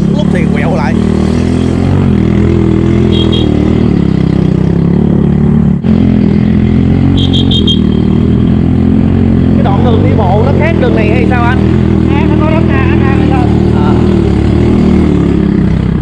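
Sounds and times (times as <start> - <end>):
small motorcycle engine running: 0.0 - 16.0.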